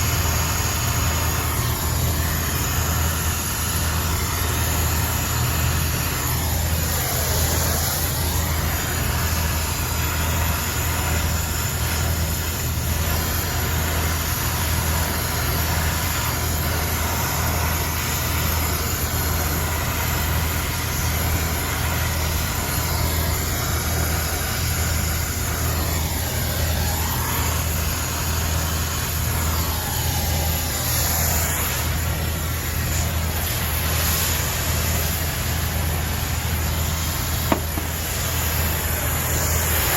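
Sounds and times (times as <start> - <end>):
constant rushing noise: 0.0 - 39.9
low mechanical hum: 0.0 - 39.9.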